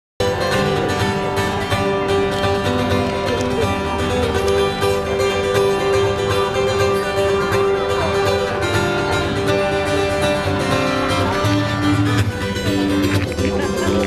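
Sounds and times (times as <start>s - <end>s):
live band music led by guitar: 0.2s - 14.0s.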